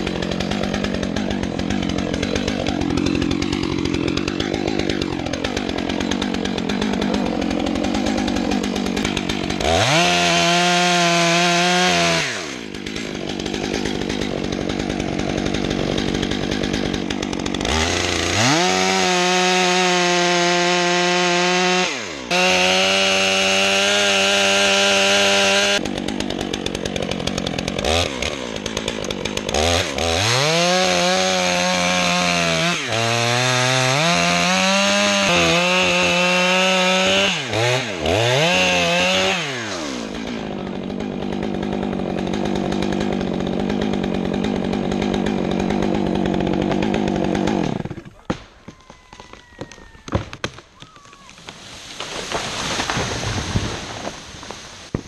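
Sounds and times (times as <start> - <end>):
chainsaw cutting tree trunk: 0.0 - 55.0.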